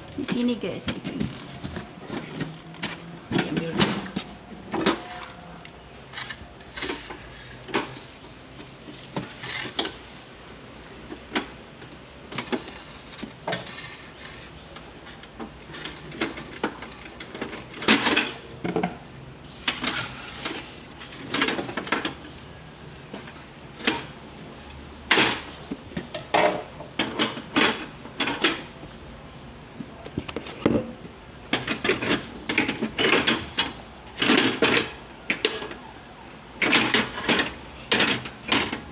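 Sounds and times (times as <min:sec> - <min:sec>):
items clattering and knocking: 0:00.0 - 0:10.1, 0:11.0 - 0:22.4, 0:23.1 - 0:29.0, 0:29.7 - 0:38.9.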